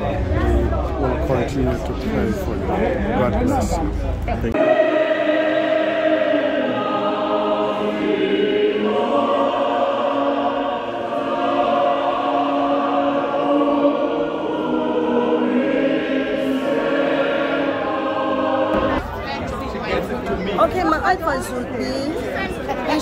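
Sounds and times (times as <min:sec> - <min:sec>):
choir singing: 0:00.0 - 0:03.6, 0:04.5 - 0:23.0.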